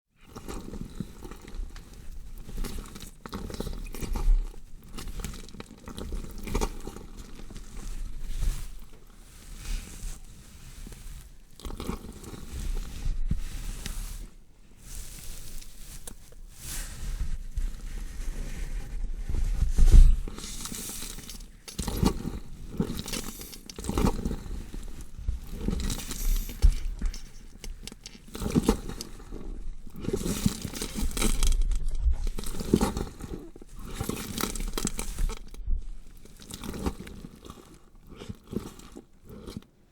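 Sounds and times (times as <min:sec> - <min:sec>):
wet squelching and tearing flesh: 0:00.3 - 0:17.9, 0:20.2 - 0:39.9.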